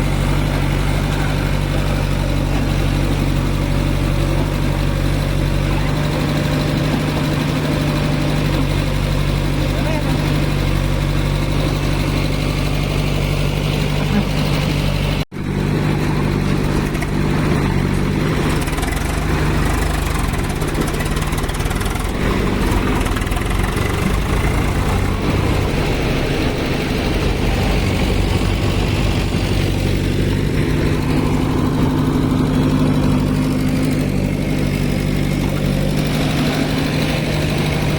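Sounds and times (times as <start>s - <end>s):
diesel engine droning: 0.0s - 37.9s.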